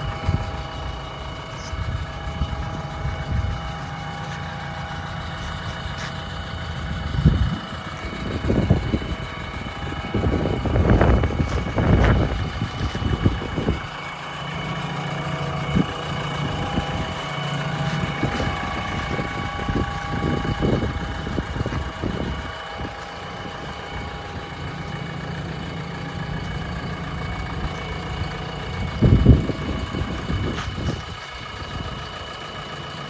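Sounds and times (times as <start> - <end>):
low rumble: 0.0 - 32.0
diesel engine idling: 0.0 - 33.0.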